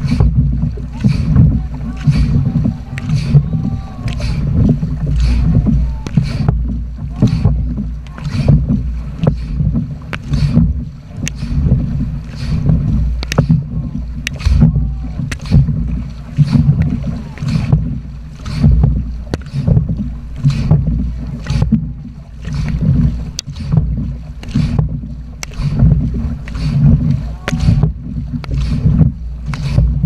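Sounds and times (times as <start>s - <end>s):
paddles splashing through water: 0.0s - 30.0s
wind rumble on microphone: 0.0s - 30.0s.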